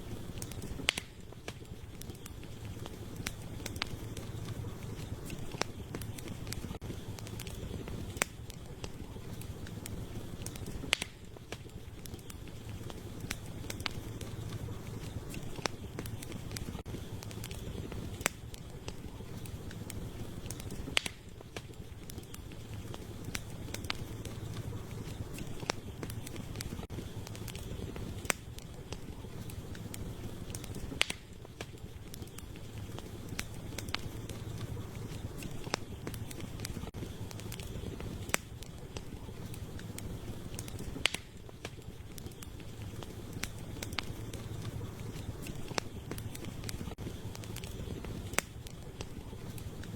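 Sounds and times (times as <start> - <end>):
fire popping and snapping: 0.0 - 49.9
flame rushing: 0.0 - 49.9.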